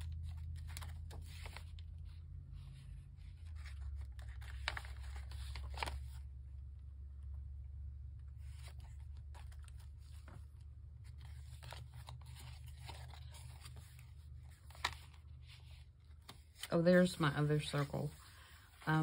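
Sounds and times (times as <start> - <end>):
paper pages rustling: 0.0 - 6.4, 8.2 - 19.0.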